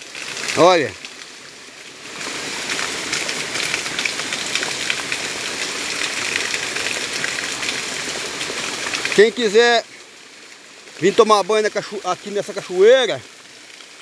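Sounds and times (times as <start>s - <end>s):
water jetting onto rocks: 0.0s - 14.0s.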